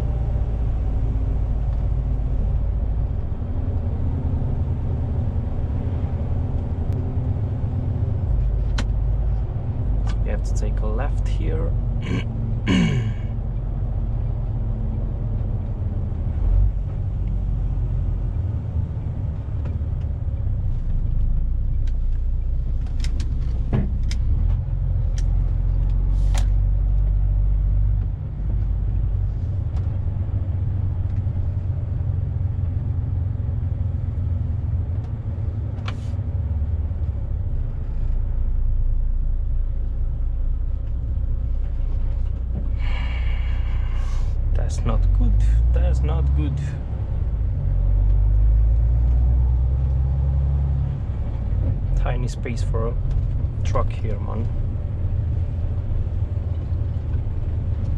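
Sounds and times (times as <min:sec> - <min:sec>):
diesel engine rumble in cab: 0:00.0 - 0:57.9
road noise: 0:00.0 - 0:57.9.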